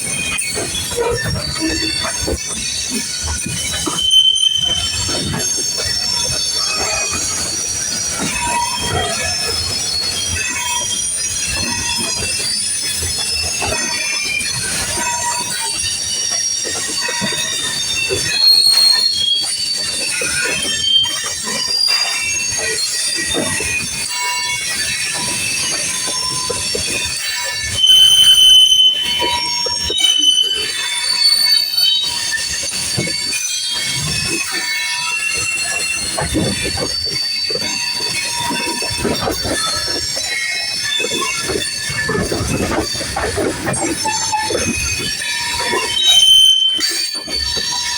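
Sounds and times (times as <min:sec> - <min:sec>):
train wheels squealing on rail: 0:00.0 - 0:47.9.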